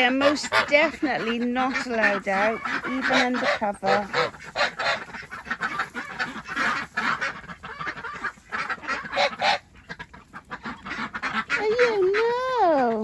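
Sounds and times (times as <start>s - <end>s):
ducks quacking: 0.0s - 13.0s
geese honking: 0.0s - 13.0s.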